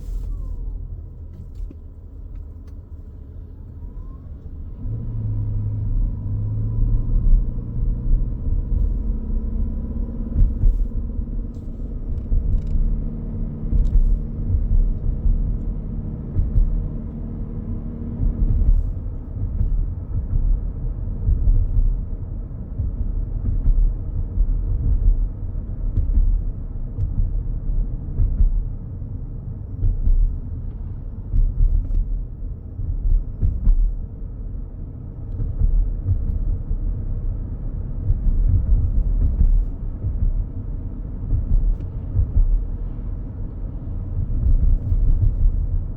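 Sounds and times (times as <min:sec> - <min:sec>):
road and drivetrain rumble: 0:00.0 - 0:45.9.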